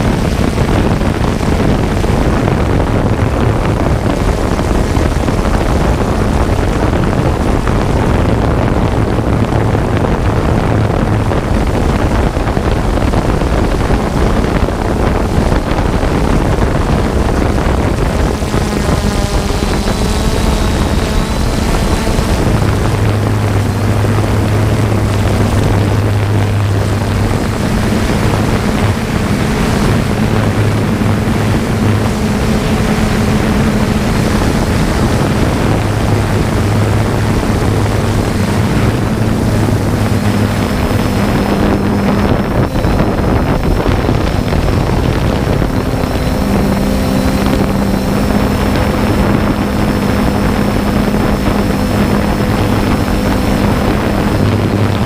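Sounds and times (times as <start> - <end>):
drone propellers humming: 0.0 - 55.0
faint high whine: 0.0 - 55.0
wind noise on microphone: 0.0 - 55.0.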